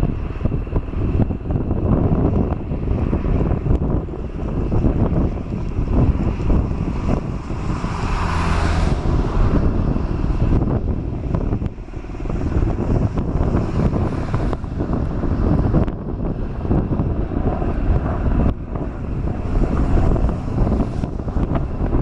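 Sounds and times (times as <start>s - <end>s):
jet engines during landing: 0.0s - 22.0s
wind buffeting on microphone: 0.0s - 22.0s.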